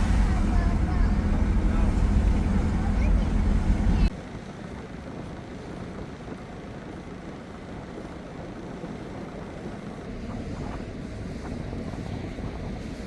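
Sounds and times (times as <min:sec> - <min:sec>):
sea surf rumble: 0:00.0 - 0:13.0
wind buffeting microphone: 0:00.0 - 0:13.0.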